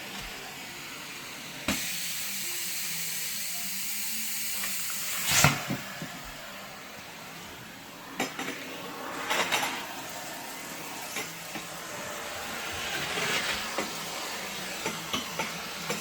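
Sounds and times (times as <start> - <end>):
vacuum hose hissing: 0.0 - 16.0.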